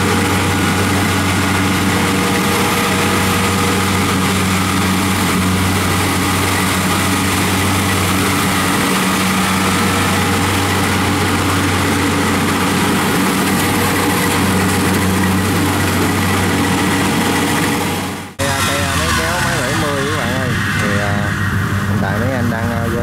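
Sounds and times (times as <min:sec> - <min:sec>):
combine harvester diesel engine: 0:00.0 - 0:23.0.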